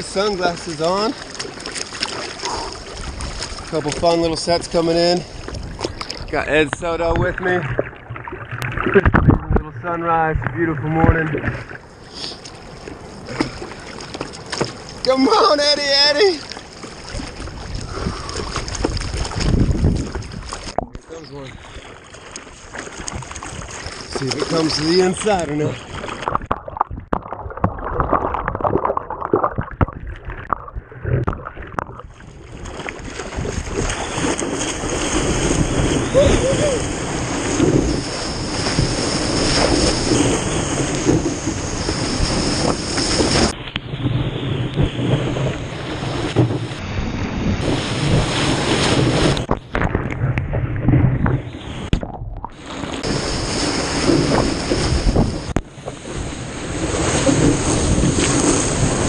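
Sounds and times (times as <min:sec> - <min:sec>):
wind and surf rushing: 0:00.0 - 0:27.1, 0:30.0 - 0:59.0
water splashing at microphone: 0:00.0 - 0:46.9, 0:47.5 - 0:59.0
waves breaking: 0:00.0 - 0:59.0.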